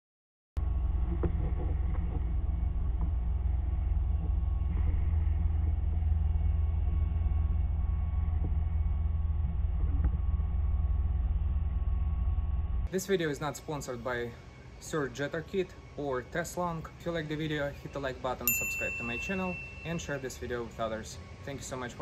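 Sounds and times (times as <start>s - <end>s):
faint steady hum: 0.6s - 22.0s
steady low rumble: 0.6s - 22.0s.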